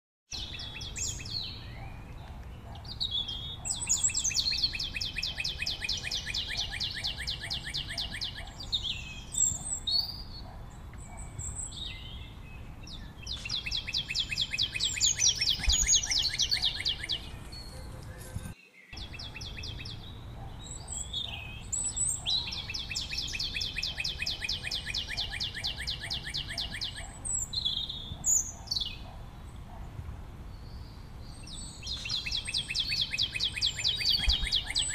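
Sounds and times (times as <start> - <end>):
bird chirps: 0.3 - 29.9, 30.6 - 34.9
birds singing trills: 0.3 - 34.9.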